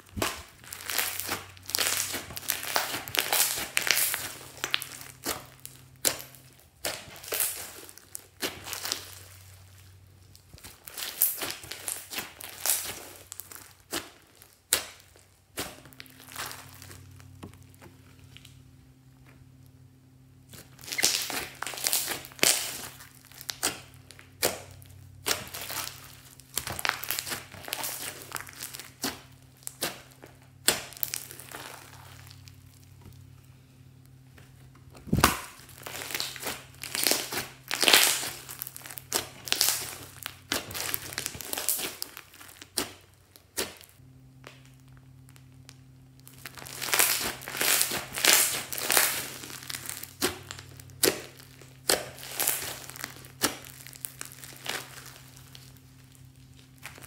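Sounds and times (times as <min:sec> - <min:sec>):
slime crackling when squeezed: 0:00.0 - 0:18.6, 0:20.5 - 0:33.3, 0:35.0 - 0:57.0.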